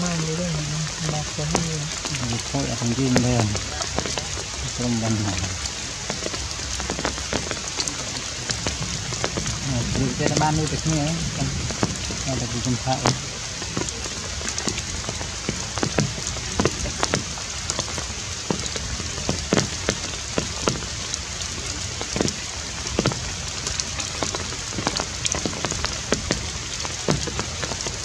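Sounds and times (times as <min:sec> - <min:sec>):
single raindrops landing close: 0:00.0 - 0:28.0
steady rain falling: 0:00.0 - 0:28.0.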